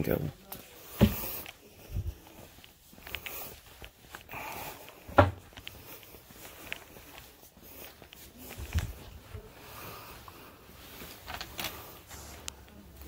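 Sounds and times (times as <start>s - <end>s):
clothes rustling against phone: 0.0s - 13.0s
footsteps: 0.0s - 13.0s.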